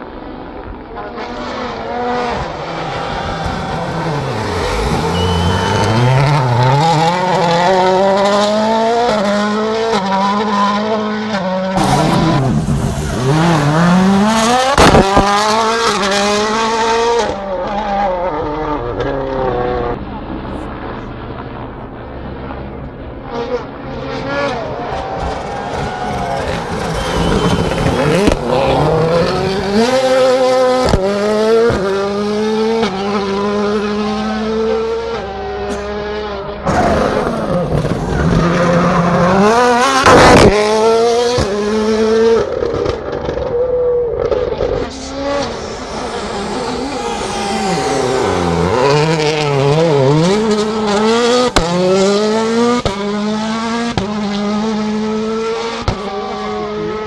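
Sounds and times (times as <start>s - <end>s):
rally cars passing at full speed: 0.0s - 57.0s.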